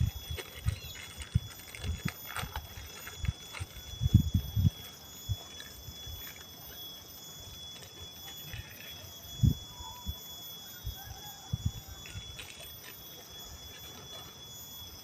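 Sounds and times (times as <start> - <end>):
high-pitched hum: 0.0 - 15.0.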